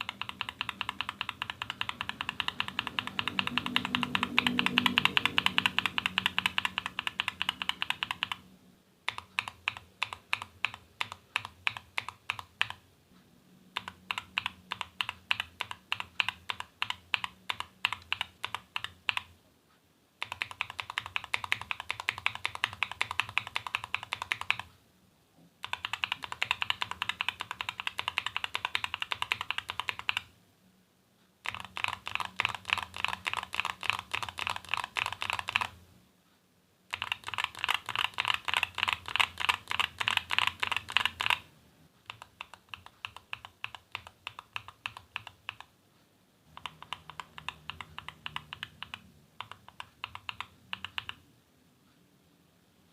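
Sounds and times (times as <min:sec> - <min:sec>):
typing on mechanical keyboard: 0:00.0 - 0:08.5, 0:09.1 - 0:12.8, 0:13.7 - 0:19.4, 0:20.2 - 0:24.7, 0:25.6 - 0:30.3, 0:31.4 - 0:35.8, 0:36.9 - 0:45.7, 0:46.5 - 0:51.2.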